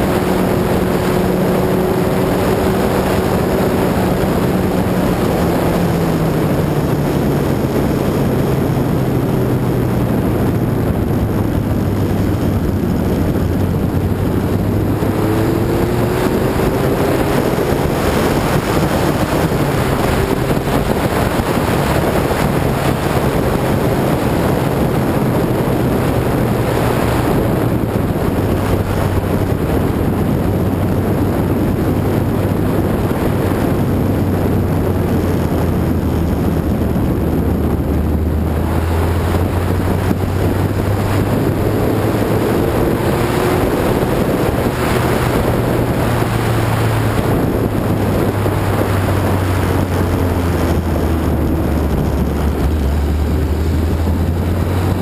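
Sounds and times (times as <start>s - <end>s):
heavy wind noise: 0.0s - 55.0s
racing car engine running hard: 0.0s - 55.0s.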